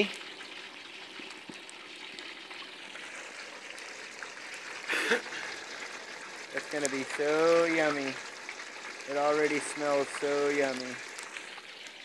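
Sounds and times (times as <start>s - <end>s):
deep-frying oil sizzling: 0.0s - 12.0s.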